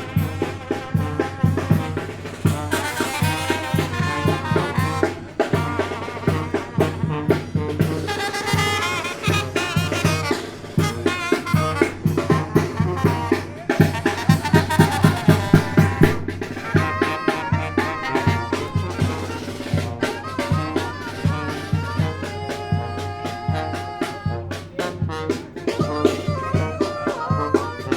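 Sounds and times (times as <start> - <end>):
bass drum and snare beat: 0.0 - 27.9
brass horns playing a tune: 0.0 - 27.9.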